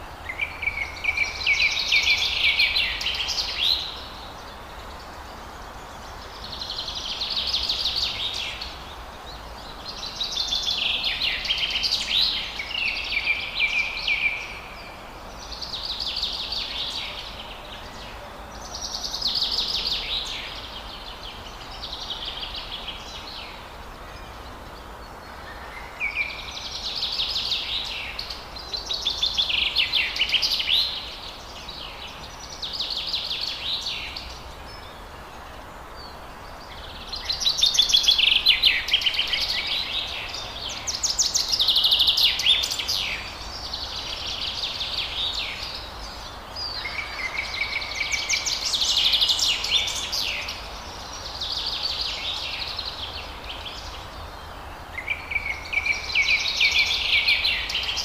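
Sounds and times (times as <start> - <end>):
songbird chattering song: 0.0 - 58.0.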